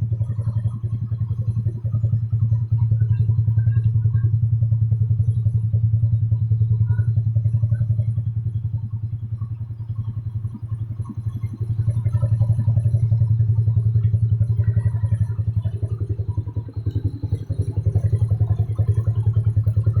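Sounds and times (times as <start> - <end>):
scooter engine idling: 0.0 - 20.0.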